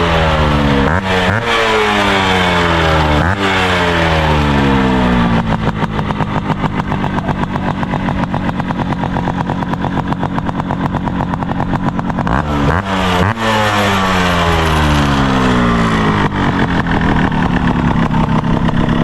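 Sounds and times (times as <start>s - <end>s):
engine revving: 0.0s - 19.0s
motorcycle engine idling: 0.0s - 19.0s.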